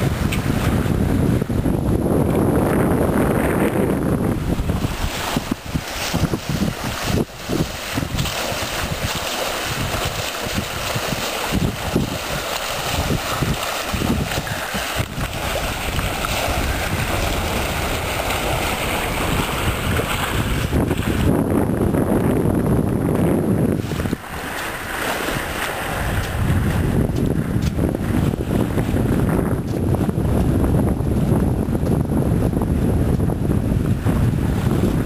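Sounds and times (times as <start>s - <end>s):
water rushing along a hull: 0.0s - 35.0s
wind buffeting the microphone: 0.0s - 35.0s.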